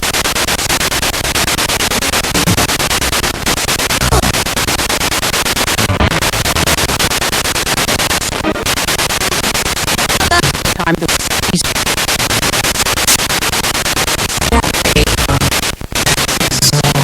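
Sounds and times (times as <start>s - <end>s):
pulsing radio static: 0.0s - 17.0s
snatches of broadcast sound: 0.0s - 17.0s.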